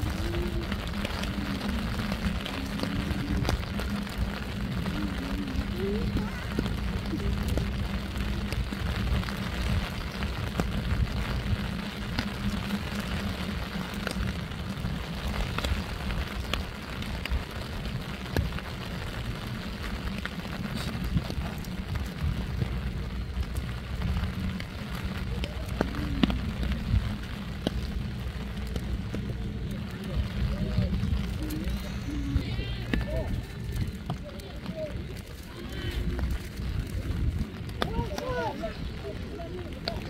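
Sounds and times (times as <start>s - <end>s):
low rumble: 0.0s - 40.0s
steady rushing outdoor noise: 0.0s - 40.0s.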